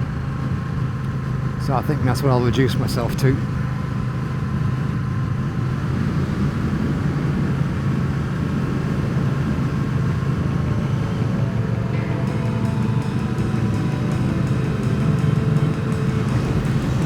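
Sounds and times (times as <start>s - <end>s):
wind and road noise: 0.0s - 17.0s
motorcycle engine running: 3.3s - 17.0s.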